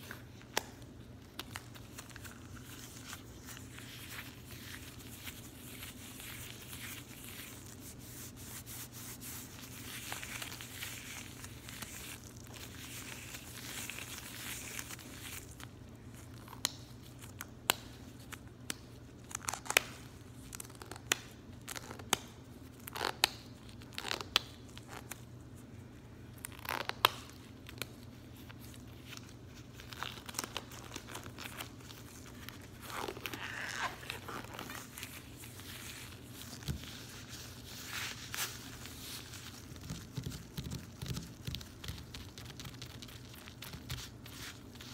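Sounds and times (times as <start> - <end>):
latex gloves rustling: 0.0 - 44.9.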